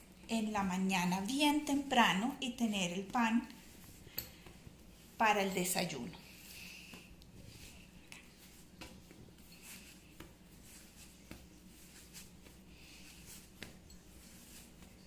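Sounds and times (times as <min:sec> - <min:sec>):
palms rubbing bread dough: 0:00.0 - 0:15.0.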